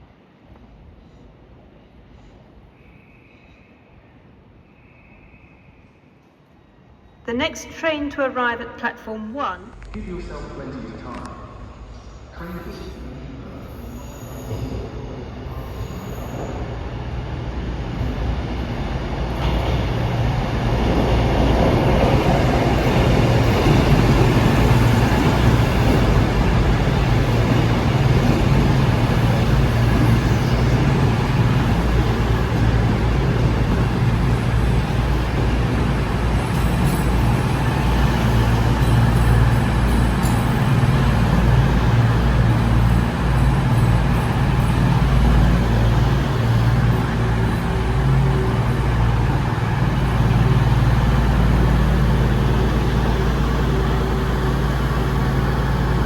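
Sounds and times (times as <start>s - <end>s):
passenger train arriving: 0.0s - 56.0s.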